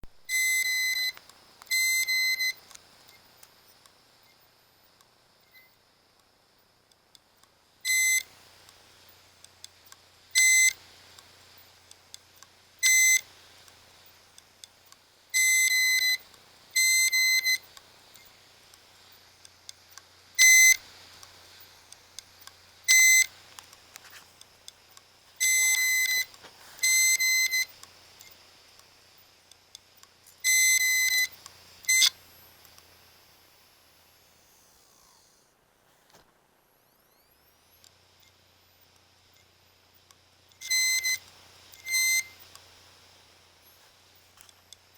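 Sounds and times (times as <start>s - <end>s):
hard drive spinning hum: 0.0s - 44.9s
hard drive buzzing beeps: 0.1s - 5.8s, 7.8s - 8.3s, 9.1s - 10.9s, 11.5s - 35.5s, 36.7s - 44.9s.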